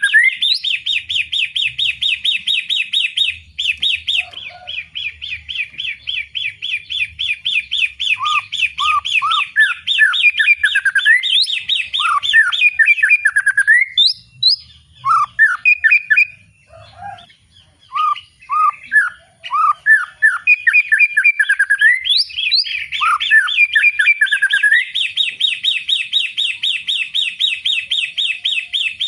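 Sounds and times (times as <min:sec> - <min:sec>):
songbird chirping and whistling: 0:00.0 - 0:29.0.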